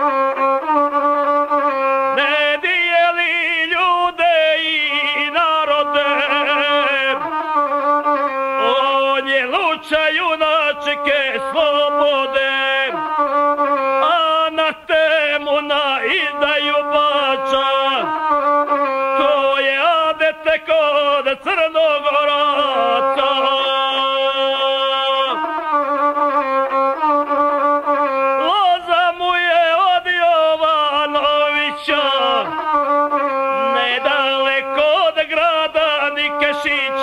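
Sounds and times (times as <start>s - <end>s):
bowed folk fiddle playing: 0.0s - 37.0s.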